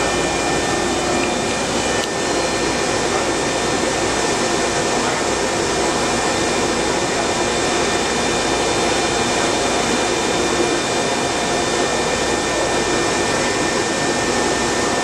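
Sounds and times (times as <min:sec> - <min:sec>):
faint high whines: 0:00.0 - 0:15.0
grinder machine hissing: 0:00.0 - 0:15.0.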